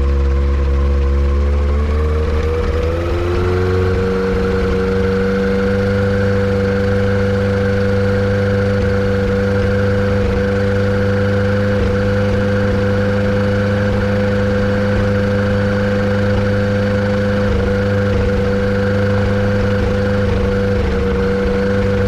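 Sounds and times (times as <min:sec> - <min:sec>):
aircraft engine running: 0:00.0 - 0:22.0.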